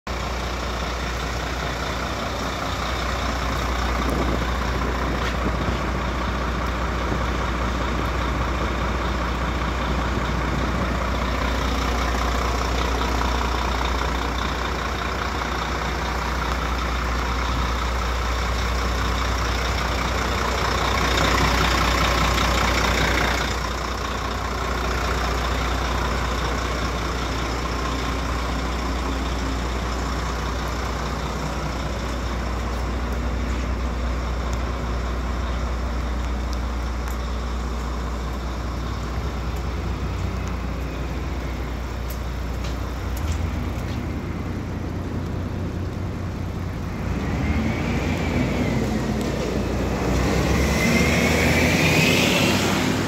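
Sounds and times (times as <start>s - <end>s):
diesel truck engine idling: 0.1s - 53.0s.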